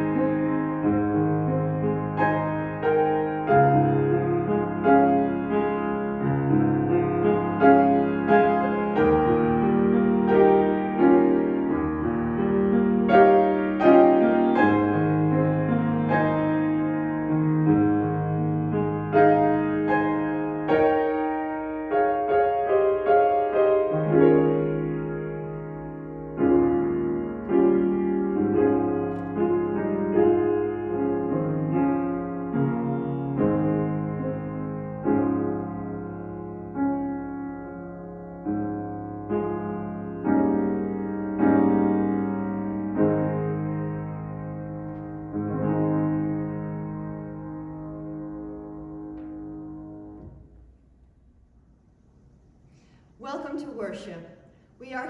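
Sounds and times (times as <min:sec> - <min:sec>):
sustained piano bass line: 0:00.0 - 0:52.6
piano chords: 0:00.0 - 0:55.0.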